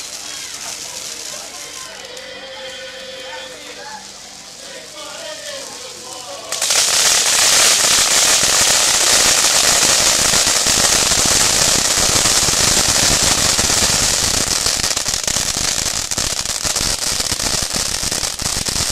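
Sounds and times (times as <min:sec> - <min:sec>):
firework fountain hissing and crackling: 0:00.0 - 0:18.9.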